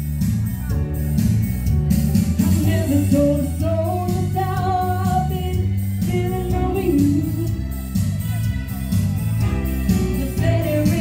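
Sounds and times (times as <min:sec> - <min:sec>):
band with singer playing: 0:00.0 - 0:11.0.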